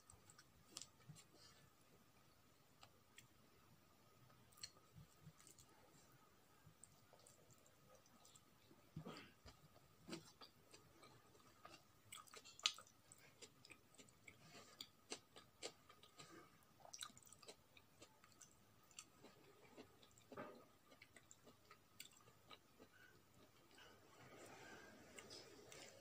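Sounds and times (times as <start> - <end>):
person chewing food: 0.0 - 1.6, 4.3 - 26.0.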